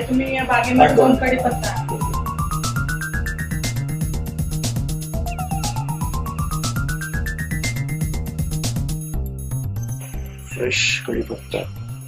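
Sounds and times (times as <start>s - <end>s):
background music with climbing notes: 0.8s - 12.0s.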